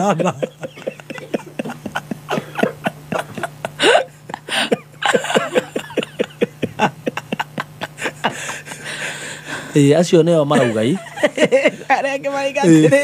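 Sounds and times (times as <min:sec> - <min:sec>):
man laughing hard: 0:00.0 - 0:09.4, 0:10.5 - 0:11.9.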